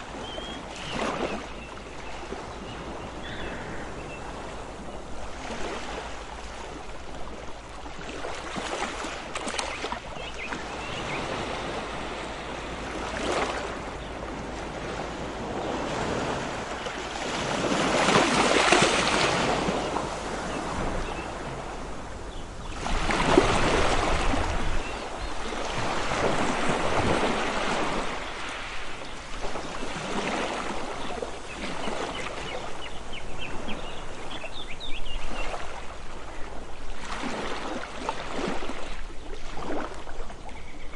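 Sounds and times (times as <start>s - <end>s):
ocean waves breaking: 0.0s - 32.9s, 35.3s - 40.3s.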